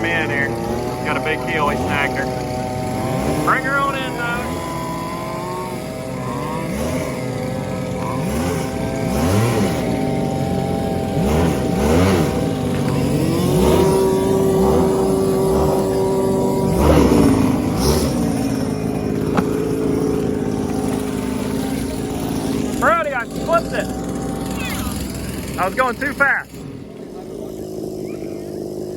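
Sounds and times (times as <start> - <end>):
small engines revving high: 0.0 - 28.9.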